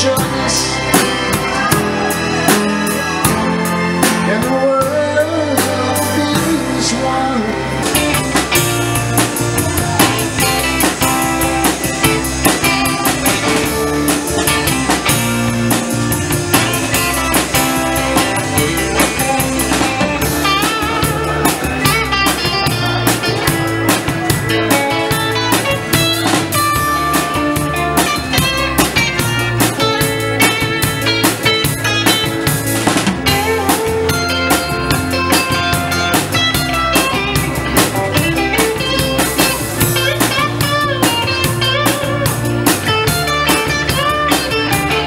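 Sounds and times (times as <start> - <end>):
drum kit beat: 0.0 - 7.0, 7.7 - 45.0
electric guitar: 0.0 - 45.0.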